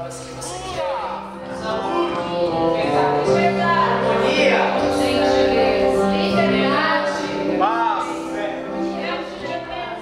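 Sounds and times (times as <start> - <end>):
several voices singing: 0.3 - 10.0.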